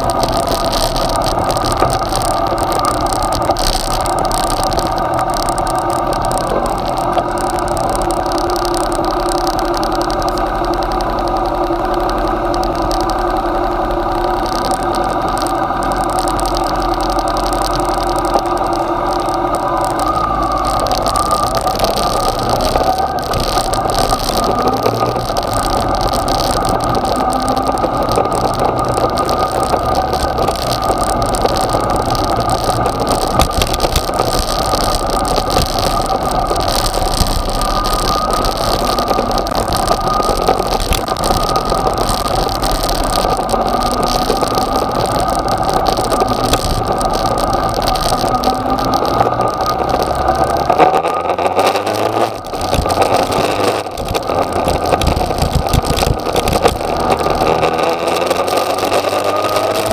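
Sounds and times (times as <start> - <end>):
motorcycle engine revving: 4.8 - 59.9.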